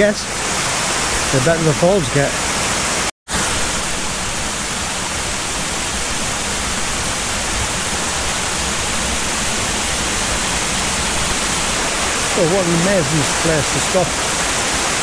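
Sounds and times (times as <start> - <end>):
waterfall rushing over rock: 0.0 - 15.0.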